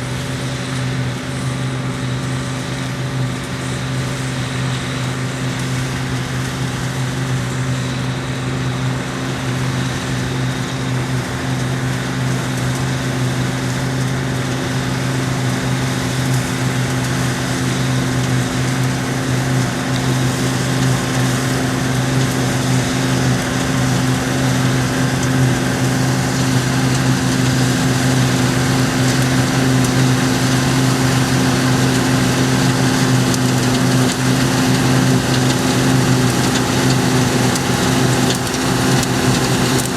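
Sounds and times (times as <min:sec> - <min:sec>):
combine harvester engine hum: 0:00.0 - 0:39.9
rushing noise of crop and machinery: 0:00.0 - 0:39.9.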